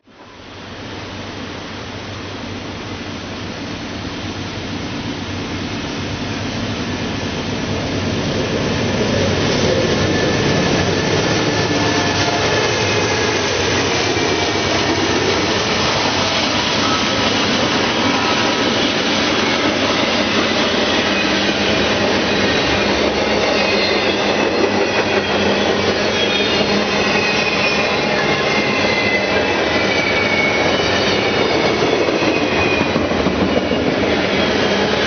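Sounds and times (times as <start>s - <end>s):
freight train passing: 0.1s - 35.0s.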